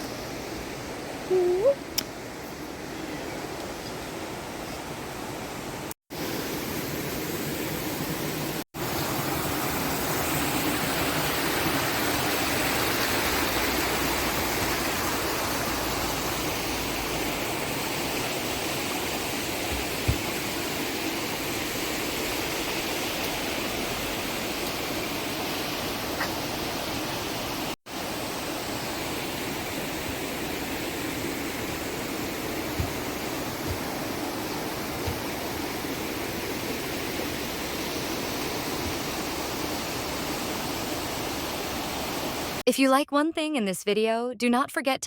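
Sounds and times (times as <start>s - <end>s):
stream water rushing: 0.0s - 42.6s.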